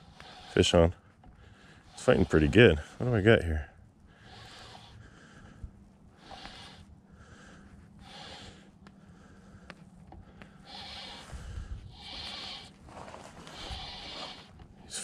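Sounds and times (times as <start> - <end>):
man breathing hard: 0.0 - 3.0, 4.0 - 15.0.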